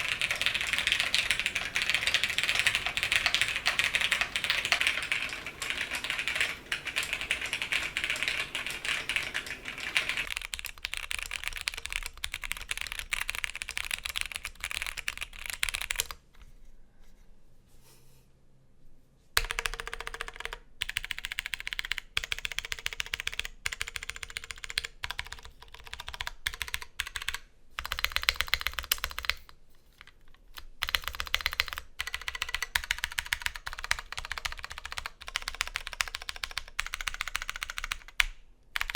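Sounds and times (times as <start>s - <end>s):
mechanical keyboard typing: 0.0s - 16.2s, 19.4s - 38.9s.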